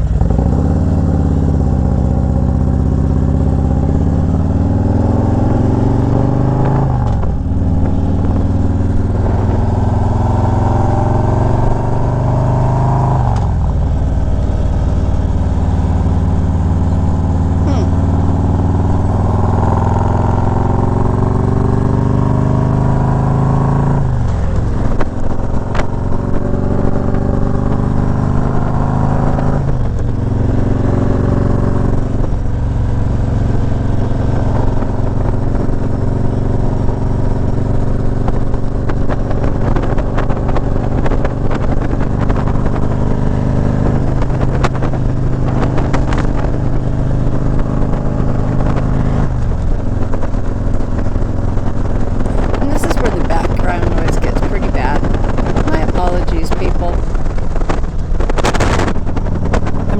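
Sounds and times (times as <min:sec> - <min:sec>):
motorcycle engine accelerating: 0:00.0 - 0:59.9
road and wind noise: 0:00.0 - 0:59.9.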